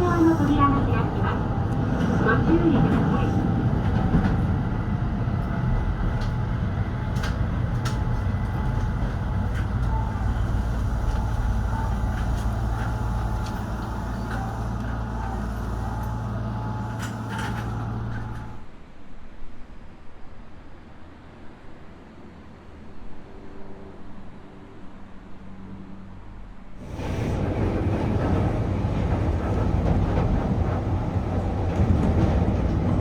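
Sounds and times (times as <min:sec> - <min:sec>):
train interior drone: 0:00.0 - 0:33.0.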